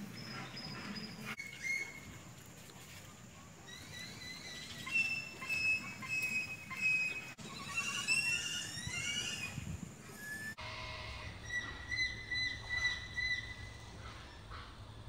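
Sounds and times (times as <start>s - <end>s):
birds singing and calling: 0.0s - 2.2s, 3.6s - 10.6s, 11.4s - 14.8s.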